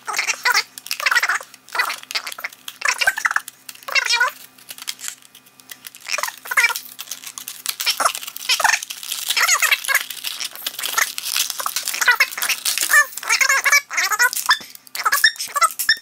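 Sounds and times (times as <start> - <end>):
plastic packaging crinkling: 0.0 - 16.0
plastic squeaks: 0.1 - 16.0.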